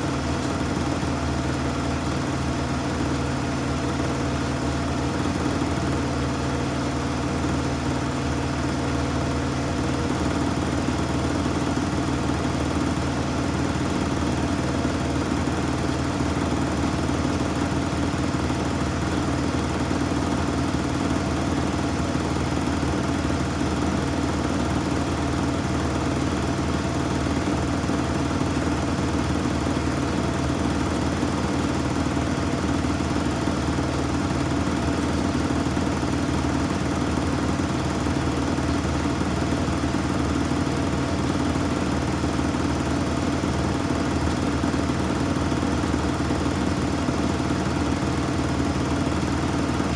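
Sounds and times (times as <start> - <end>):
washing machine spinning: 0.0 - 49.9.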